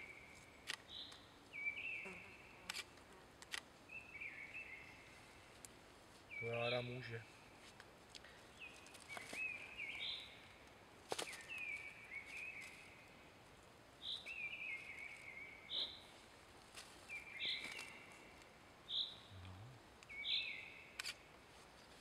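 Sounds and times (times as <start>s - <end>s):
songbird singing: 0.0s - 3.2s, 3.8s - 16.3s, 17.0s - 21.9s
faint forest background: 0.0s - 22.0s.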